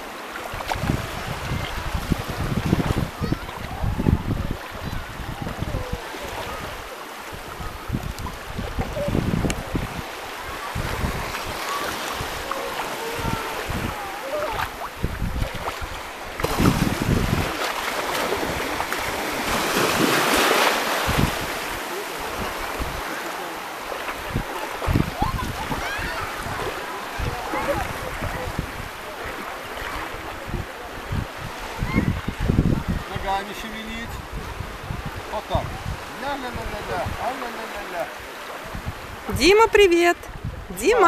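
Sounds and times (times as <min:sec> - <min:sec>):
wind buffeting microphone: 0:00.0 - 0:23.1, 0:23.8 - 0:37.3, 0:38.6 - 0:41.0
gentle surf washing: 0:00.0 - 0:41.0.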